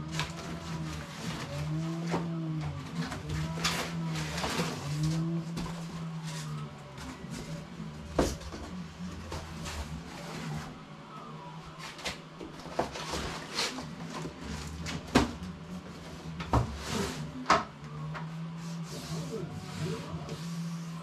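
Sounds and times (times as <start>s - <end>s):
cardboard scraping and rustling: 0.0s - 10.9s, 11.6s - 21.0s.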